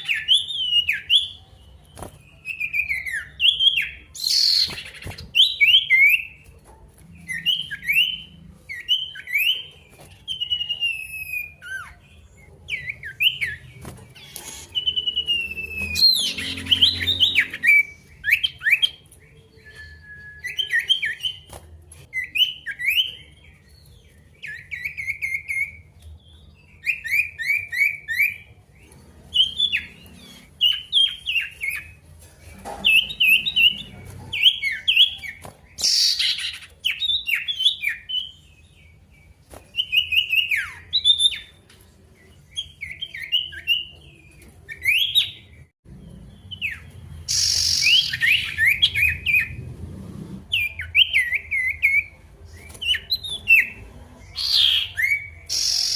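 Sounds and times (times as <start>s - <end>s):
songbird singing chirpy phrases: 0.0s - 55.9s.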